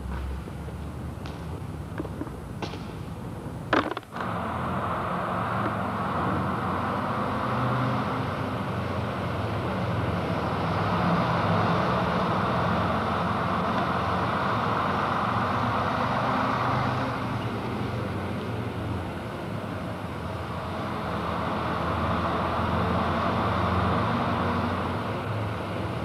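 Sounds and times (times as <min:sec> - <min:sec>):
bus diesel engine passing: 0:00.0 - 0:26.0.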